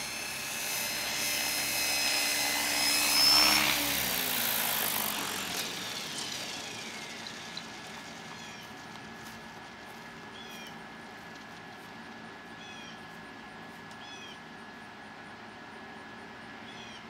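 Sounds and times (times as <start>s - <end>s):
helicopter rotor whine: 0.0s - 14.7s.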